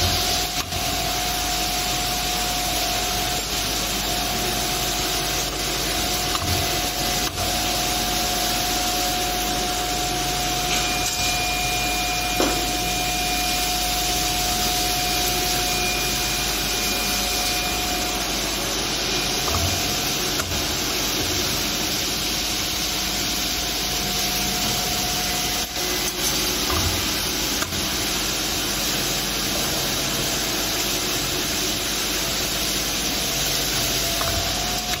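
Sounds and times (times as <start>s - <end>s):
machine whirring and humming: 0.0s - 35.0s.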